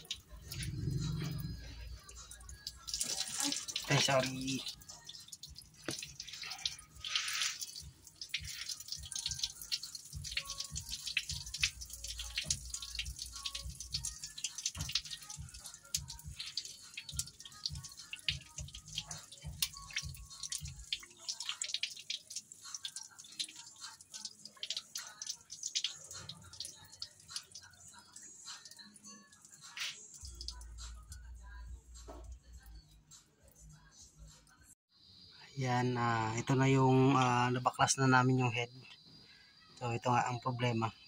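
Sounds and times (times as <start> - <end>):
coolant trickling and splashing: 0.0 - 32.9
small water drips: 0.0 - 33.7.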